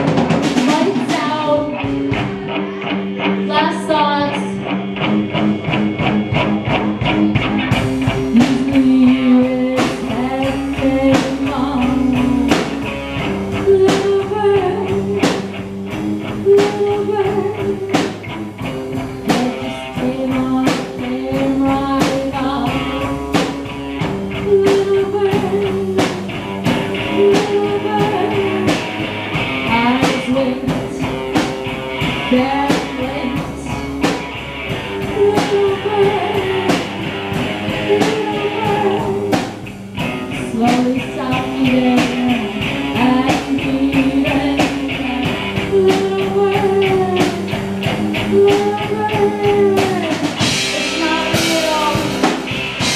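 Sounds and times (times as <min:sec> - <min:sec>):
electric guitars: 0:00.0 - 0:52.9
rock band playing: 0:00.0 - 0:52.9
drum beat: 0:05.0 - 0:52.9.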